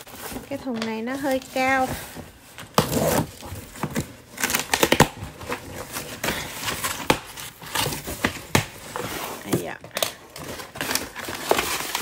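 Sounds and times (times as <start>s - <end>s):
cardboard scraping and rustling: 0.0s - 12.0s.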